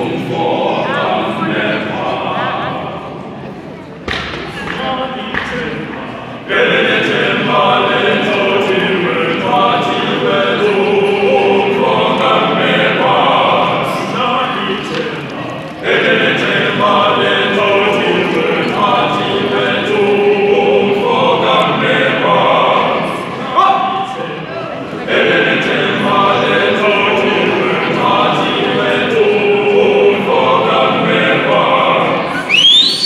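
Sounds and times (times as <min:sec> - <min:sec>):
male voice choir singing: 0:00.0 - 0:03.2, 0:04.5 - 0:33.0.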